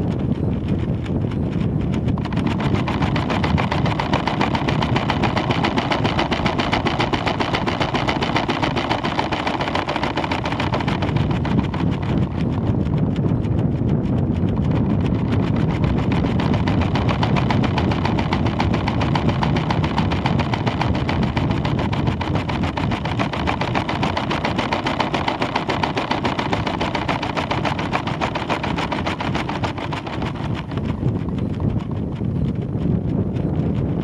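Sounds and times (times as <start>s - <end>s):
fast fluttering rattle: 0.0s - 34.0s
wind rushing on microphone: 0.0s - 34.0s.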